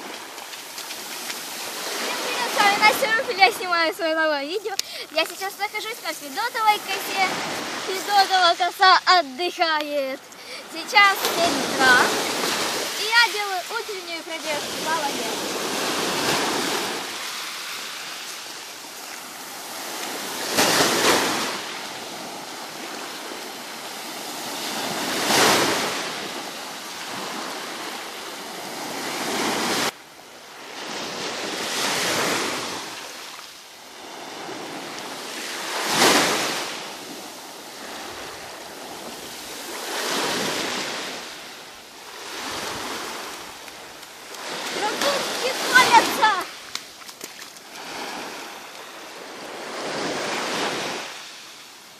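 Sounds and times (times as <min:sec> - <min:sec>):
waves washing onto beach: 0:00.0 - 0:51.9.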